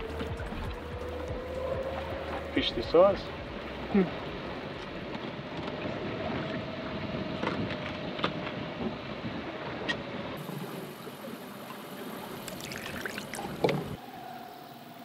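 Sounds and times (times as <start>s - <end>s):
water around a boat: 0.0s - 15.0s
wind: 0.0s - 15.0s.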